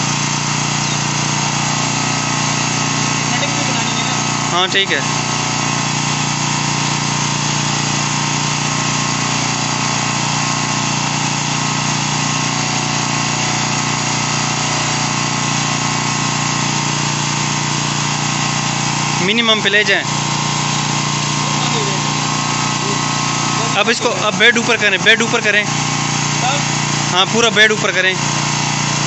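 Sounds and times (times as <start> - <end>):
bed motor humming: 0.0 - 29.0.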